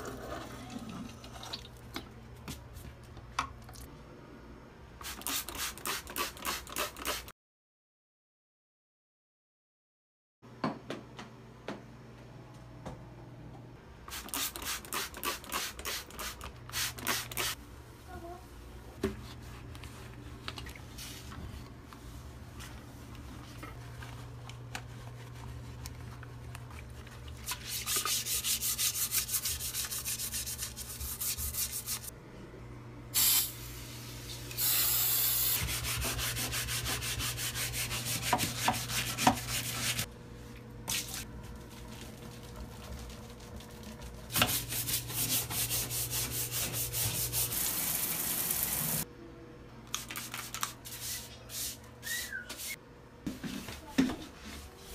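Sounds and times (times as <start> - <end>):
scrubber scrubbing bathroom fixtures: 0.0 - 3.9, 5.0 - 7.3, 14.0 - 18.2, 18.8 - 32.2, 33.2 - 49.1, 49.9 - 54.9.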